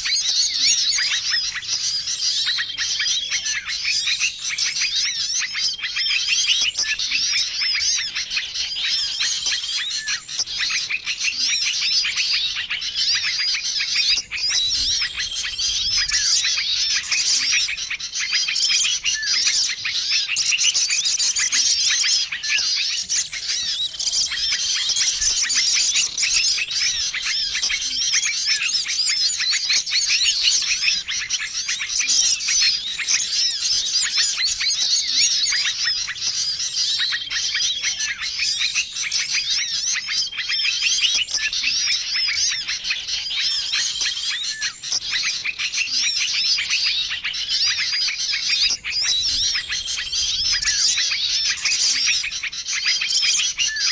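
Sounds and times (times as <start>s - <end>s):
songbirds chirping and twittering: 0.0s - 53.9s.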